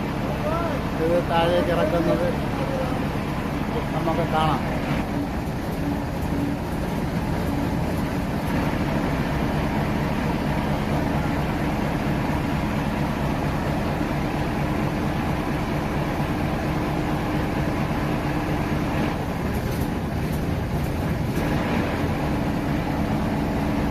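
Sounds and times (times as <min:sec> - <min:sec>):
crane diesel engine droning: 0:00.0 - 0:23.9.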